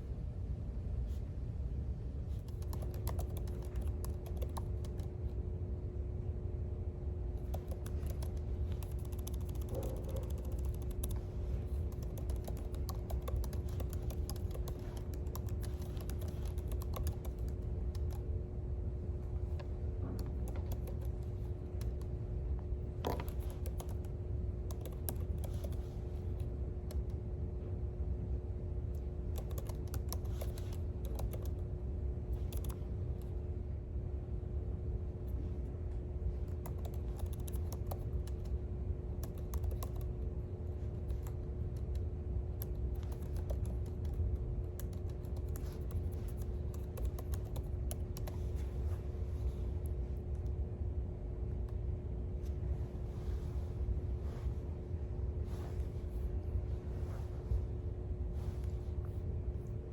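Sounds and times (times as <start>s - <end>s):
faint steady hum: 0.0s - 59.9s
low room rumble: 0.0s - 59.9s.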